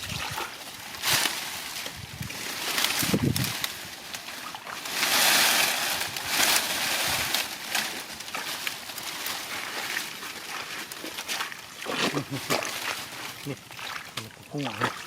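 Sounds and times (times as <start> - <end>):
water splashing in mud: 0.0 - 15.0.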